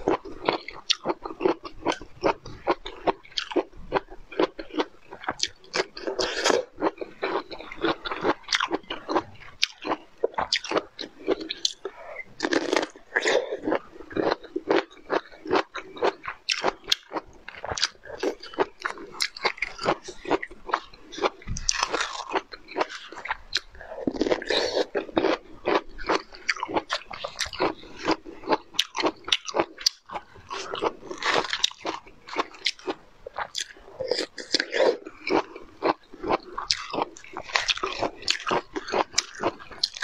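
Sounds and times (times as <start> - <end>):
crunching and chewing: 0.0 - 40.0.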